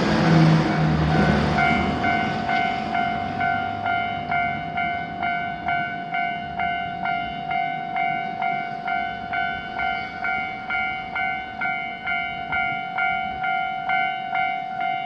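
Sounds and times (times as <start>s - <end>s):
railroad crossing warning bell: 0.0s - 15.0s.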